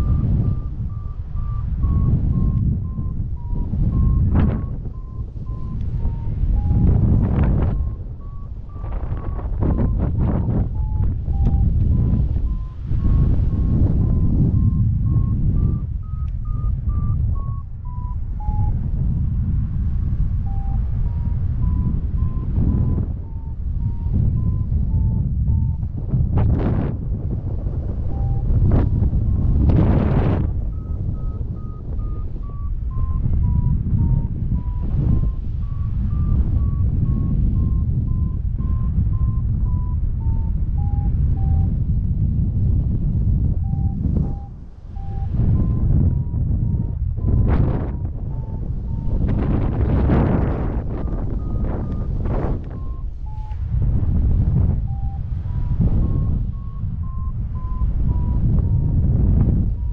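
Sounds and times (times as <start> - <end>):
variometer beeping: 0.0 - 59.9
wind on microphone: 0.0 - 59.9.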